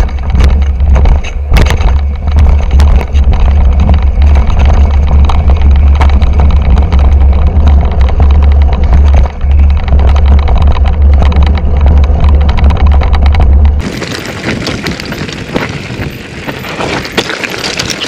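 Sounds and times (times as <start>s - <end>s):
mountain bike rattling over rough ground: 0.0s - 18.0s
wind rumble on microphone: 0.0s - 18.0s.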